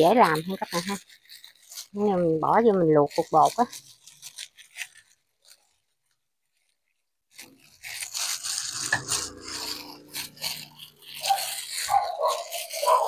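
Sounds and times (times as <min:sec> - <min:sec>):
hand kneading dough in bowl: 0:00.0 - 0:13.0
plastic glove rustling: 0:00.0 - 0:13.0.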